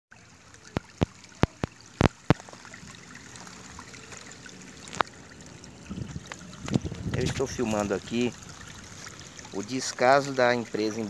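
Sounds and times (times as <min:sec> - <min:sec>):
sewage trickling: 0:00.1 - 0:11.0.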